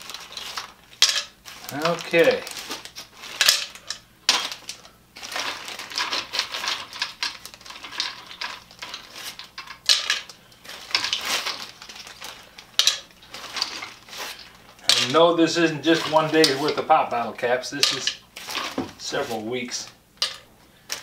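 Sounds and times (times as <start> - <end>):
plastic bottle caps rattling: 0.0 - 21.0.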